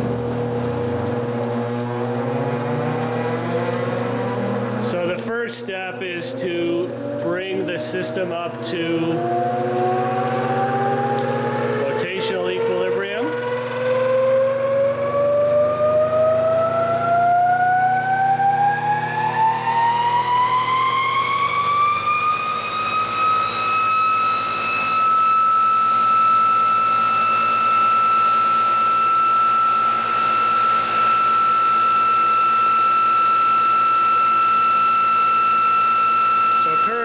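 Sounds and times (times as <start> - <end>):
electric motor whine: 0.0 - 37.0.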